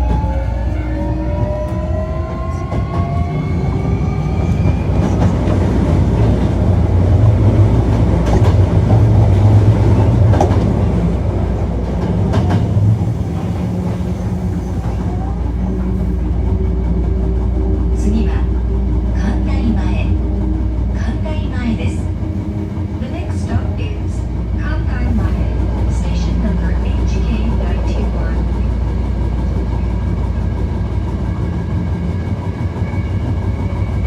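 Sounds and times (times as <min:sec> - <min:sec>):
train inverter whine: 0:00.0 - 0:34.0
train motors and wheels rumbling: 0:00.0 - 0:34.0.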